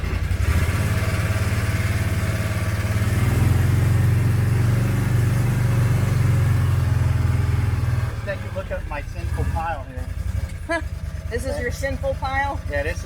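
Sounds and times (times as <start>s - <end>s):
utility vehicle engine driving: 0.0s - 13.0s.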